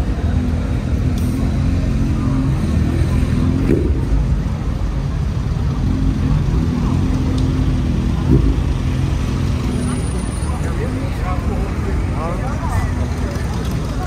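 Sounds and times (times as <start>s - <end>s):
car engines in slow traffic: 0.0s - 14.0s.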